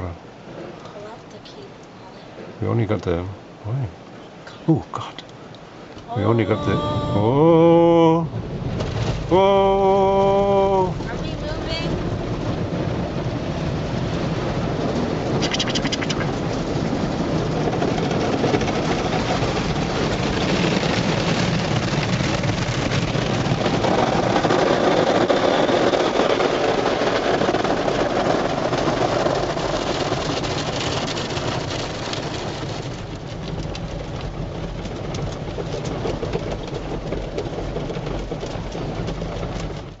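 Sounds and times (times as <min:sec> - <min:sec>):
car wash water spray: 0:07.9 - 0:40.0.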